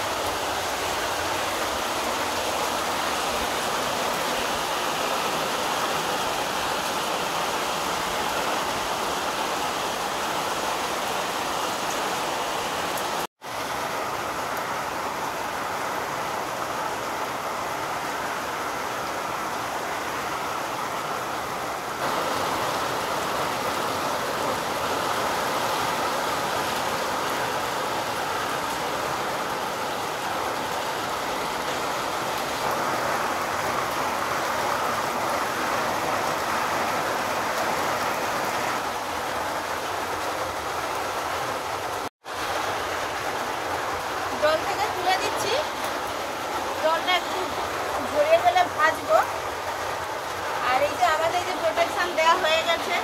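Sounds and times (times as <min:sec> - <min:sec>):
steady rain on a pond: 0:00.0 - 0:53.0.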